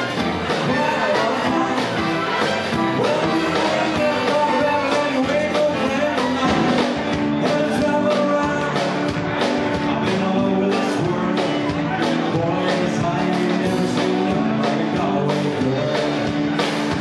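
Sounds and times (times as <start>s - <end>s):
drums keeping beat: 0.0s - 17.0s
swing band playing: 0.0s - 17.0s.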